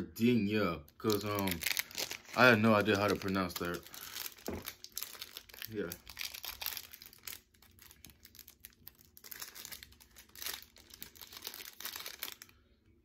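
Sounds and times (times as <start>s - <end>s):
plastic wrapper crinkling: 0.9s - 12.6s.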